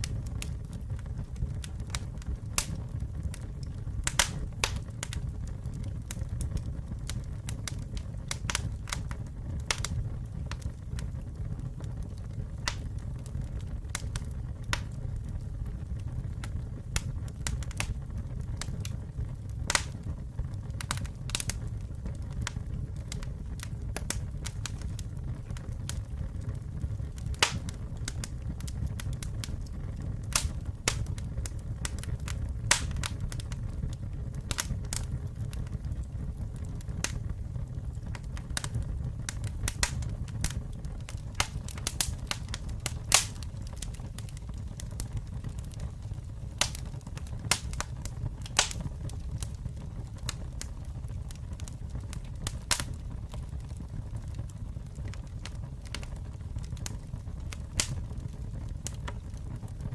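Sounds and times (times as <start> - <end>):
campfire flames rumbling: 0.0 - 59.9
fire crackles and pops: 0.0 - 59.9.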